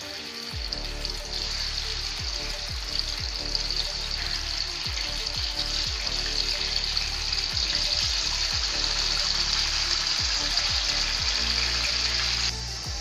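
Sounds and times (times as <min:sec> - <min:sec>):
chicken sizzling in fat: 0:00.0 - 0:13.0.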